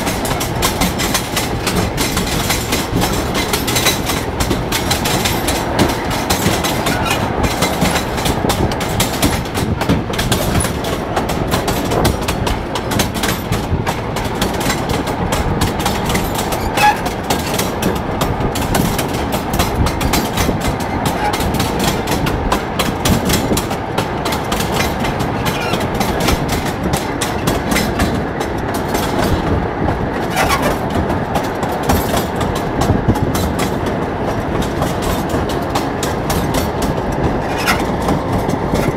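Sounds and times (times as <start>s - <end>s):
rail trolley rumbling and rattling: 0.0s - 38.9s
wheels knocking on rails: 0.0s - 38.9s.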